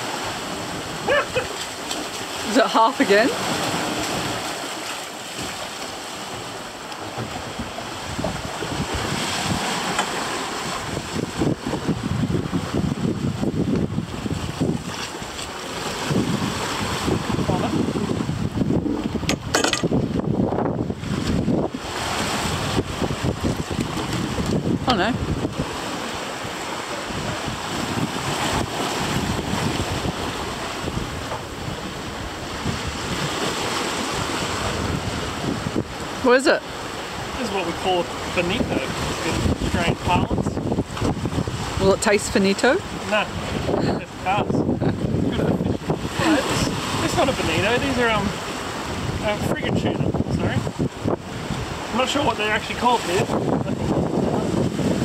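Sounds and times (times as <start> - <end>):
wind buffeting microphone: 0.0 - 4.7, 5.3 - 55.0
boat wake: 0.0 - 55.0
sea rushing: 0.0 - 55.0.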